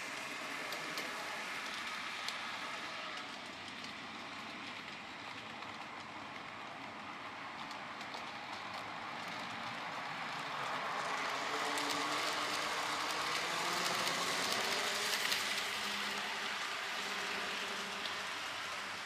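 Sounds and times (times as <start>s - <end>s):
model train whirring rumble: 0.0s - 19.0s.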